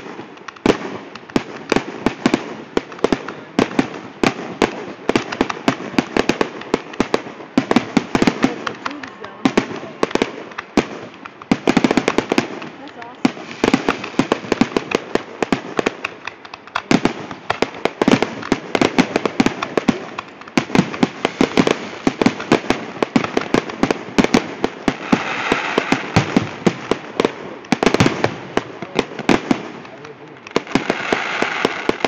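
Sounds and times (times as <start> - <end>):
fireworks bursts: 0.0 - 32.0.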